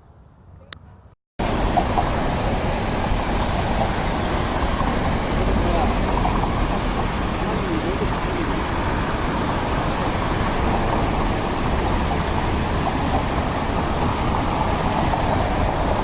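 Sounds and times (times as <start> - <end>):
stream water rushing: 1.4 - 16.0.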